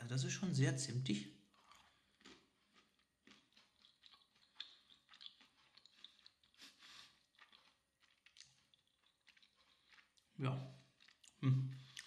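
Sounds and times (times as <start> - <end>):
faint chewing clicks: 1.5 - 12.0.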